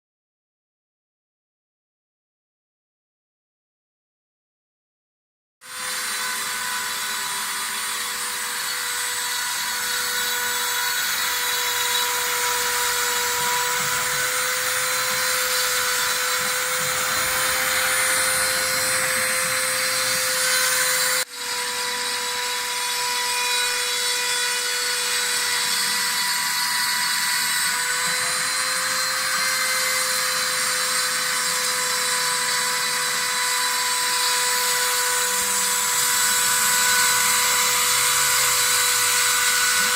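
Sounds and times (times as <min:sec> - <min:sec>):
router spindle whining: 0:05.6 - 0:39.9.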